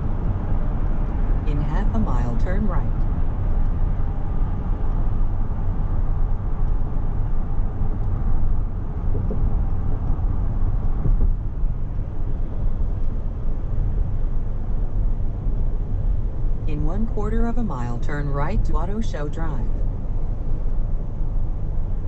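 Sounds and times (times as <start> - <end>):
car cabin road rumble: 0.0 - 22.0.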